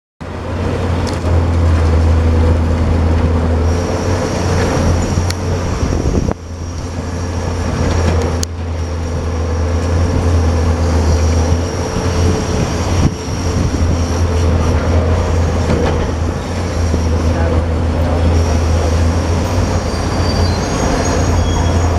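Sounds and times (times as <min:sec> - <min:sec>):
excavator diesel engine droning: 0:00.2 - 0:21.9.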